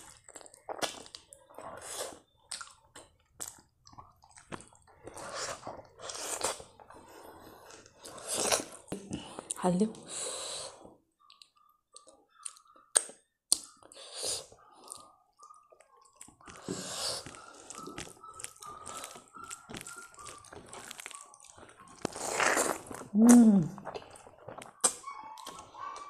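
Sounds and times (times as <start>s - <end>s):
chewing: 0.0s - 9.6s, 11.2s - 26.0s.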